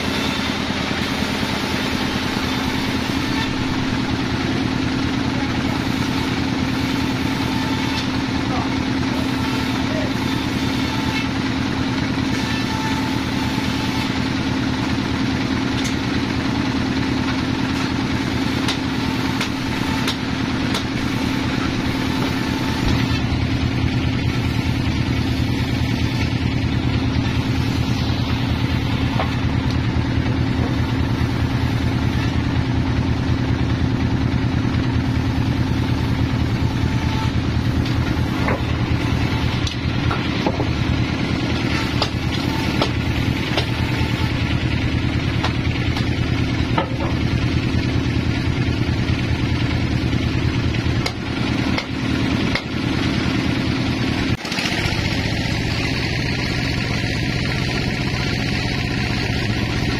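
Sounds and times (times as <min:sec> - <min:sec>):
band sawmill humming: 0:00.0 - 0:59.9.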